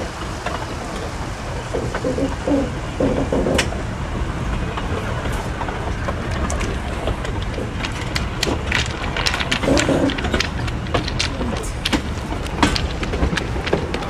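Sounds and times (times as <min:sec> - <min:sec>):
train clicks and rattles: 0:00.0 - 0:14.0
train running on track: 0:00.0 - 0:14.0.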